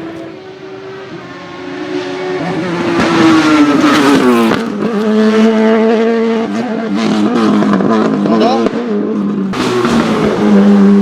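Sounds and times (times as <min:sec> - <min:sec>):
race car engine passing by: 0:00.0 - 0:11.0.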